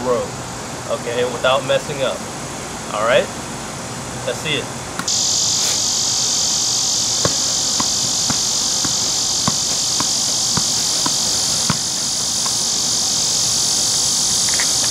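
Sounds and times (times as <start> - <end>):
insect chorus droning: 0.0 - 14.9.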